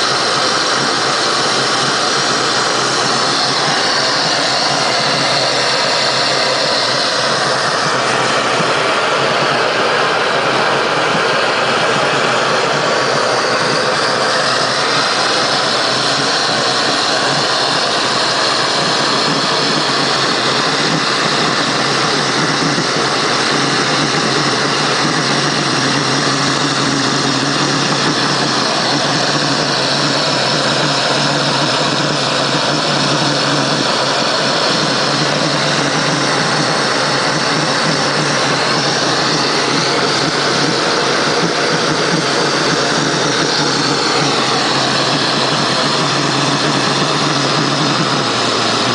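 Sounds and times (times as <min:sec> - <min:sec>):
furnace burner rushing: 0:00.0 - 0:48.9
low hum: 0:00.0 - 0:48.9.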